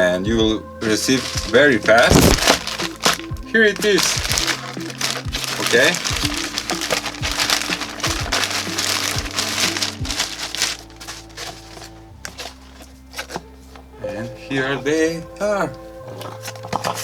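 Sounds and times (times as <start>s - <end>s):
background music: 0.0s - 17.0s
packaging crinkling and rustling: 0.8s - 13.9s, 16.1s - 17.0s.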